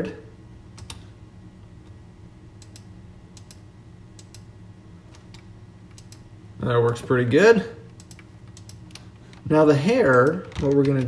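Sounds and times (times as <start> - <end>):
faint room tone hum: 0.0 - 11.0.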